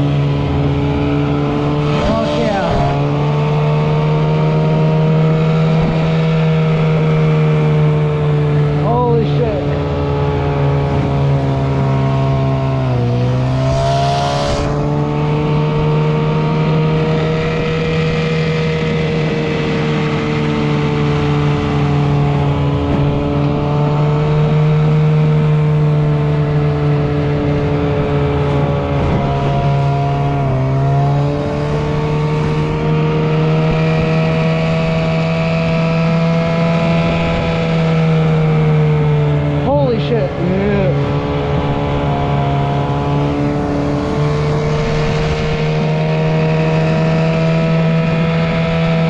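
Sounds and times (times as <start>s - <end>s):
water rushing along hull: 0.0s - 13.9s, 14.5s - 49.0s
outboard engine running: 0.0s - 49.0s.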